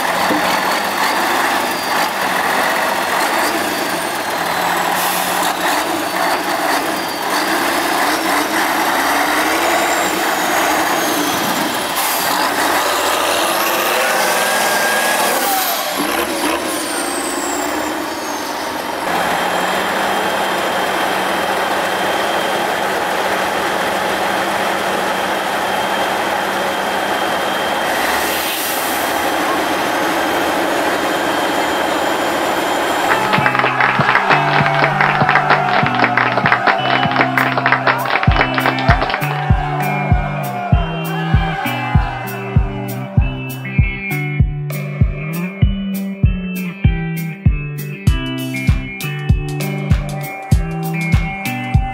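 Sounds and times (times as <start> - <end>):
truck engine revving: 0.0 - 45.6.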